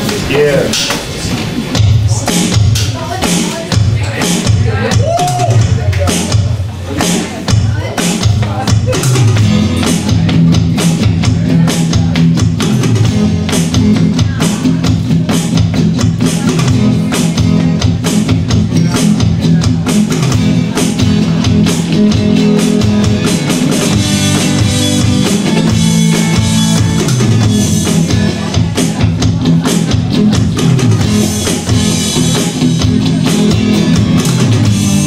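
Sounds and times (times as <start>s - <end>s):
drum kit beat: 0.0s - 35.0s
electric guitar: 0.0s - 35.0s.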